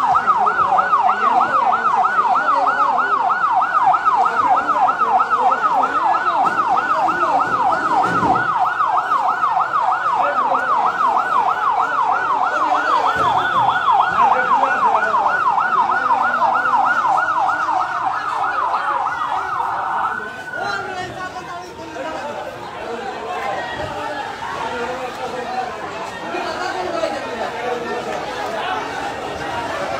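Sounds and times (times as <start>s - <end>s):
emergency siren yelping: 0.0s - 29.9s.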